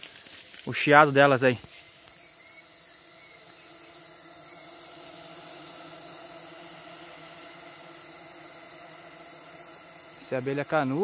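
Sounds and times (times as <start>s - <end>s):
bees hissing: 0.0s - 11.0s.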